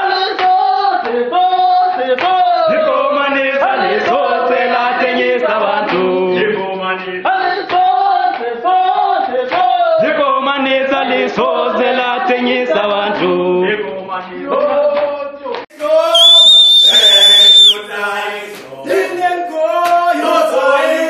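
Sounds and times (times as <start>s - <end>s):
group singing a chant: 0.0s - 16.3s, 17.7s - 21.0s.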